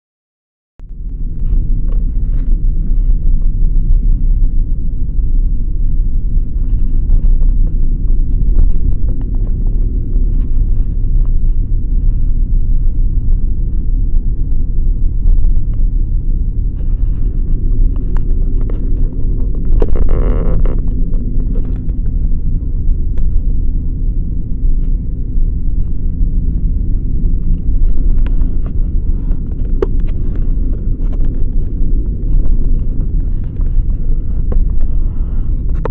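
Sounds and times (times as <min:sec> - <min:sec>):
vehicle engine and tyre rumble: 0:00.8 - 0:35.9.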